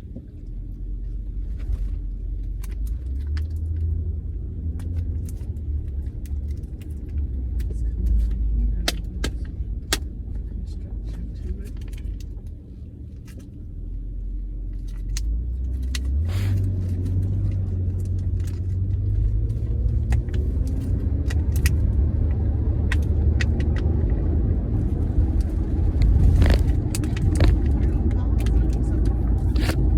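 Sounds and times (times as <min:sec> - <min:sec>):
car engine from inside cabin: 0:00.0 - 0:29.9
road rumble: 0:00.0 - 0:29.9.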